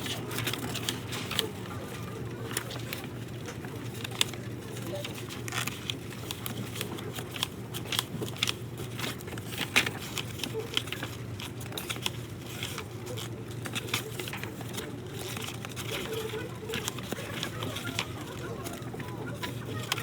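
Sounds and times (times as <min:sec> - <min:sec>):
light clicks and crinkling: 0:00.0 - 0:20.0.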